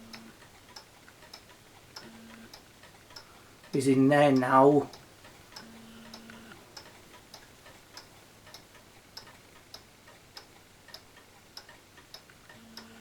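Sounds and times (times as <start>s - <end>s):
pendulum clock ticking: 0.0s - 13.0s.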